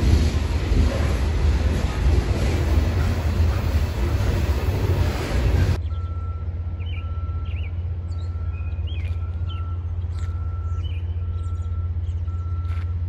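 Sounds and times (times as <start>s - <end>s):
low engine-like rumble: 0.0s - 13.0s
birds chirping: 1.7s - 12.9s.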